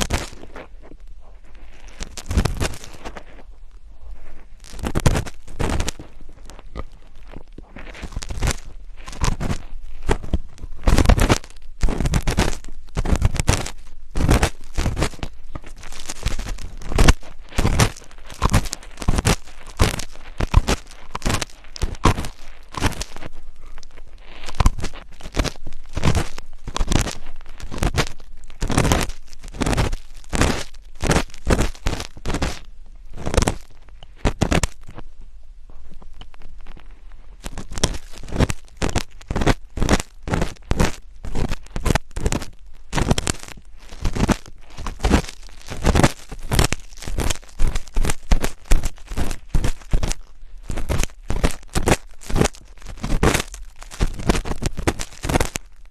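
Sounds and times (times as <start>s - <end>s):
scratching and rubbing on microphone: 0.0s - 55.9s.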